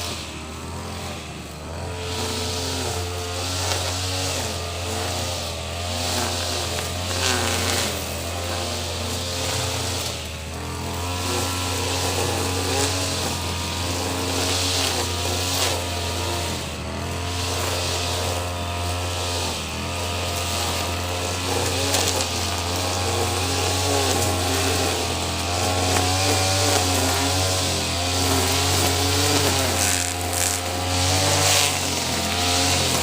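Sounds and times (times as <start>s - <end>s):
brush cutter cutting grass: 0.0s - 33.0s.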